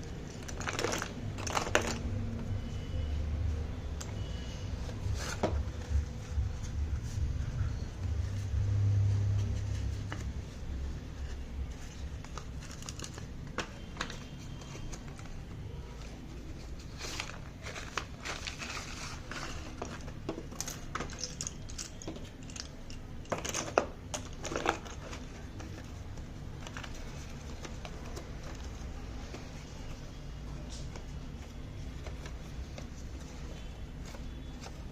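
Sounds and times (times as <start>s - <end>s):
packaging crinkling and rustling: 0.0s - 2.4s, 4.9s - 34.9s.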